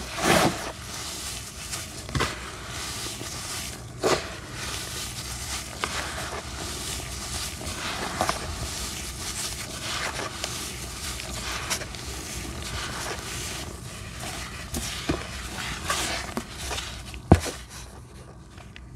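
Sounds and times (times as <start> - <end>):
sand rubbed between gloved hands: 0.0 - 17.1
sand crunching: 0.0 - 17.5.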